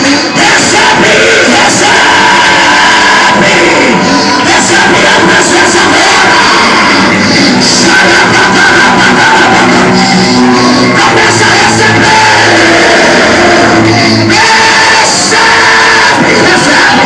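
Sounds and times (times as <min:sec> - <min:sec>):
voices shouting: 0:00.0 - 0:17.0
worship music with singing: 0:00.0 - 0:17.0.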